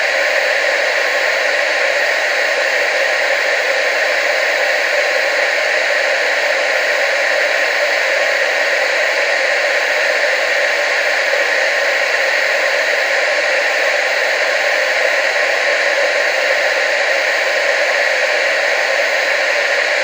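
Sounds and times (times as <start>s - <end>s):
television static hiss: 0.0s - 20.0s.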